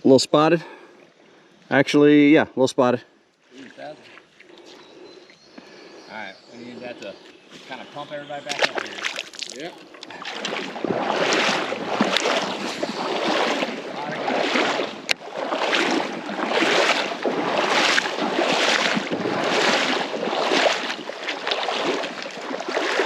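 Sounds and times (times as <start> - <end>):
water swishing around wading legs: 3.1 - 23.0.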